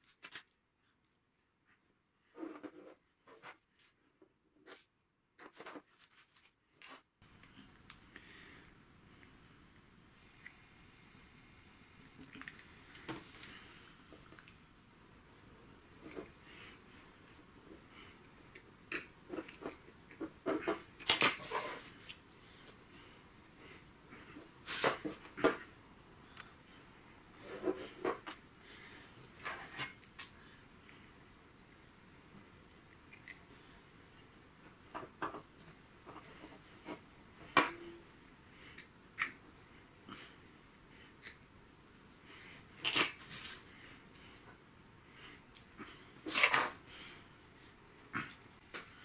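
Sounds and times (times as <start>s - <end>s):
steady low hiss: 7.2s - 49.0s.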